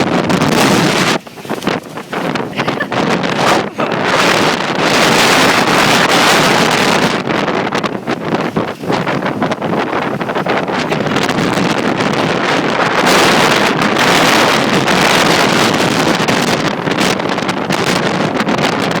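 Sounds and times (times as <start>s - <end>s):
storm wind buffeting microphone: 0.0s - 19.0s.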